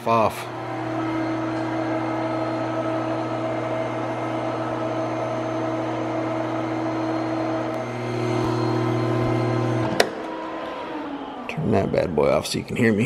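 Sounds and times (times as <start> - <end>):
welding machine fan humming: 0.0 - 12.0.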